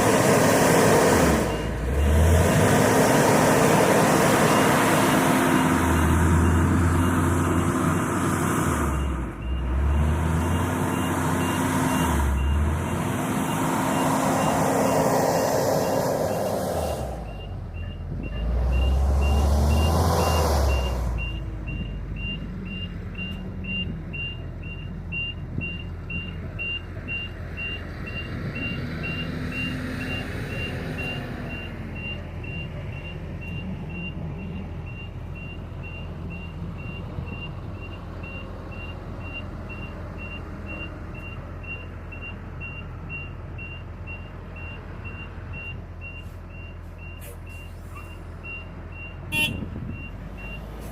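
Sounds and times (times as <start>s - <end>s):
wheel loader engine running: 0.0s - 50.9s
reversing alarm beeping: 8.9s - 50.8s.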